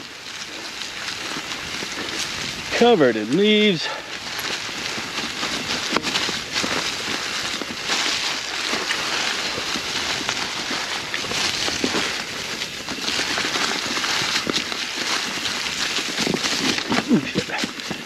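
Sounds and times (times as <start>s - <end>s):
bike tyres crunching dry leaves: 0.0s - 18.0s
clicks and knocks from rocks and bike: 0.0s - 18.0s.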